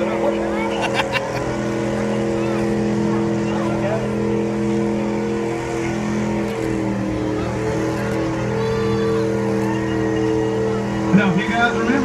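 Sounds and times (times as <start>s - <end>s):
engine revving high: 0.0s - 12.0s.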